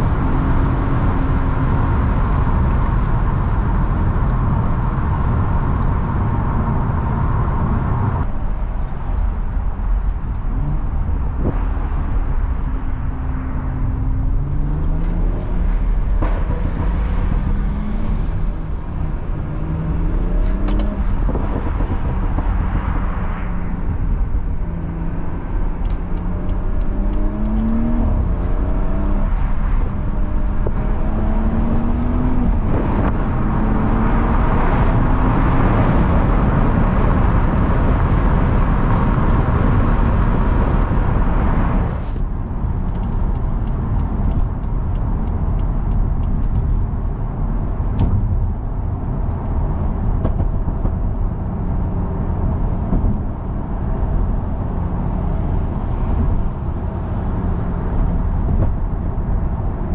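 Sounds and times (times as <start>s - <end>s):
car engine accelerating hard: 0.0s - 59.9s
engine crackles on overrun: 0.0s - 59.9s.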